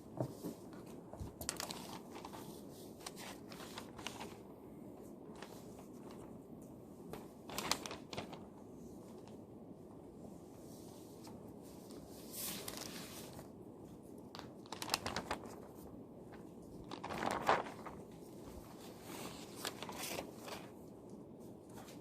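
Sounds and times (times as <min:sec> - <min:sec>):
low room hum: 0:00.0 - 0:22.0
paper crinkling rustles: 0:00.2 - 0:09.4, 0:11.2 - 0:22.0.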